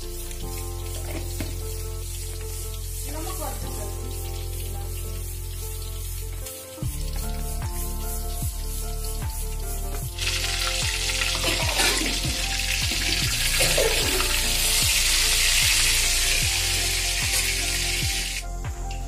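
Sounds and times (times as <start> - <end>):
fish sizzling in hot oil: 0.0 - 18.6
background music with beat: 0.0 - 19.0.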